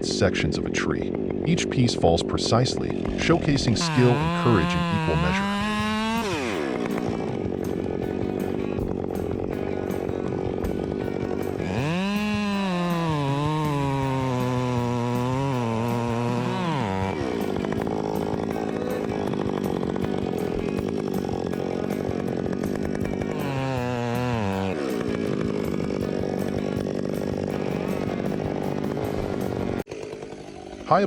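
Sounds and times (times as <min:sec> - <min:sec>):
chainsaw revving and cutting: 0:00.0 - 0:31.0.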